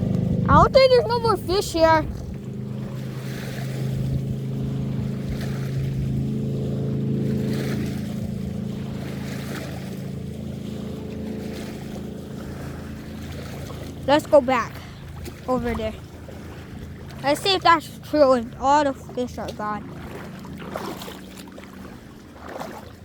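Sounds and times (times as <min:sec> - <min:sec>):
motorboat engine droning: 0:00.0 - 0:23.0.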